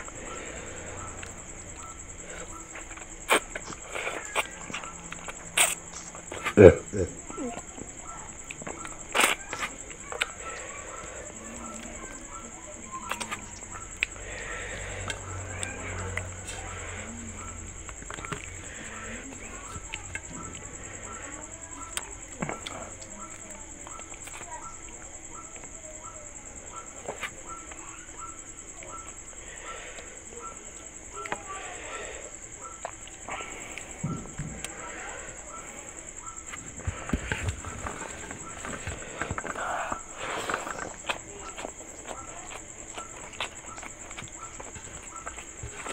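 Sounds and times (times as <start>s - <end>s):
fingers mixing food on metal plate: 0.0s - 45.9s
high insect trill: 0.0s - 45.9s
wet chewing and mouth clicks: 0.0s - 45.9s.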